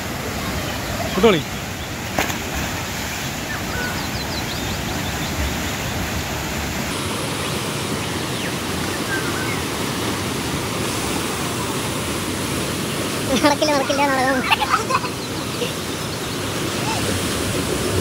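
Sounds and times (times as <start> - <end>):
waterfall rushing over rocks: 0.0 - 18.0.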